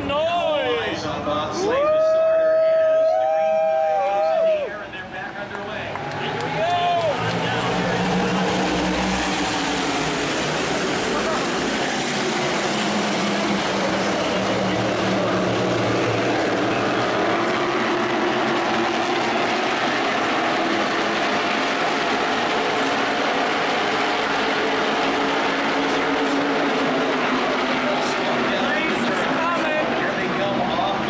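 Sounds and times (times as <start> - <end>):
race car engines droning: 0.0 - 31.0.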